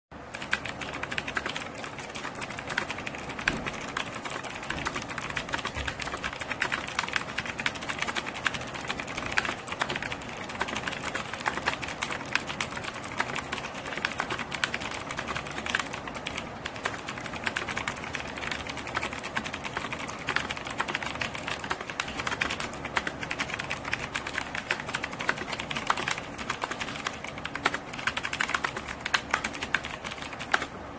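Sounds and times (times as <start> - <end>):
mechanical keyboard typing: 0.2 - 30.8.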